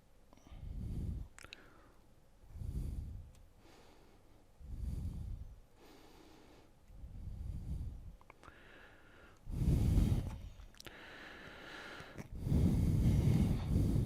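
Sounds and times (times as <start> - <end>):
person breathing: 0.3 - 14.0.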